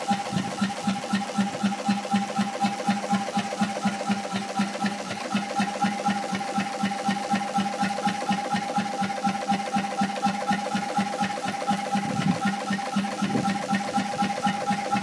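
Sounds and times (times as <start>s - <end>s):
marine engine running slowly: 0.0s - 15.0s.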